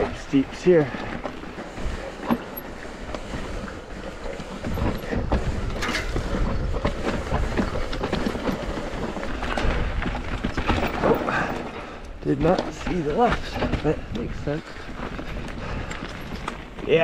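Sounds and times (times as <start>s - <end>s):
bike rattling and knocking: 0.0s - 17.0s
bike tyres sliding over dirt: 0.0s - 17.0s.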